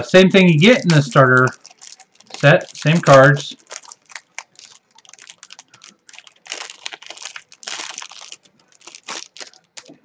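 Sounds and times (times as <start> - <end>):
plastic wrapping crinkling and tearing: 0.6 - 10.0.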